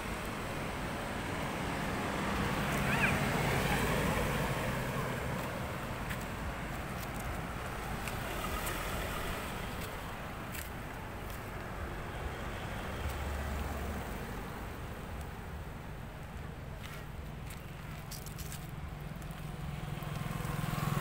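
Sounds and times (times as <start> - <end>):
low engine hum: 0.0 - 21.0
outdoor background noise: 0.0 - 21.0.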